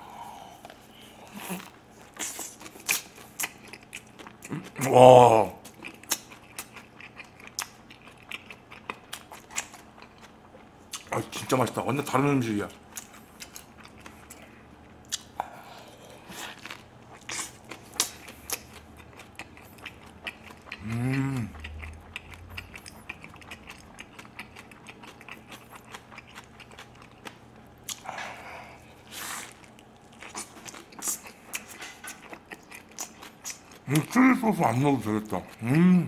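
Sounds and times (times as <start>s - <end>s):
wet chewing mouth sounds: 0.3s - 11.2s, 12.7s - 35.9s.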